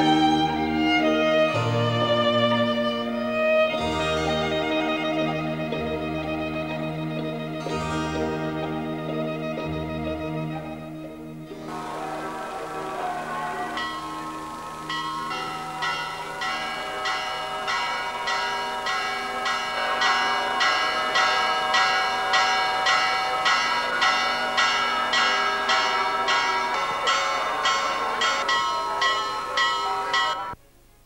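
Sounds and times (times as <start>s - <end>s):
church bells pealing: 0.0s - 30.6s.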